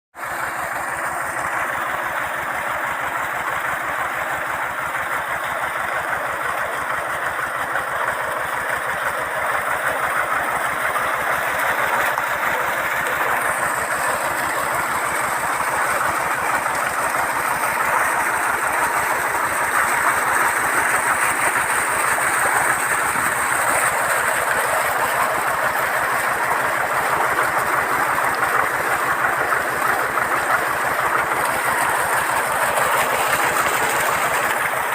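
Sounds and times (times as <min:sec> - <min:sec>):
tractor engine running: 0:00.2 - 0:34.9
water pump rushing hiss: 0:00.2 - 0:34.9.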